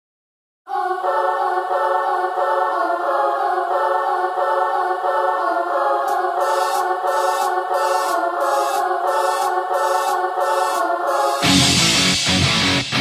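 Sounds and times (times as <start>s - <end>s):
wordless choir chord: 0.7s - 12.4s.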